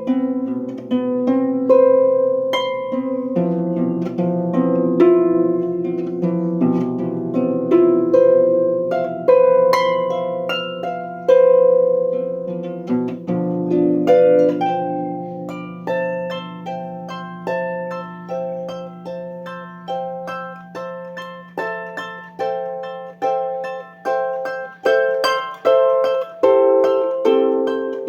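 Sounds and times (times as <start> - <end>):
plucked string instrument melody: 0.0 - 28.0.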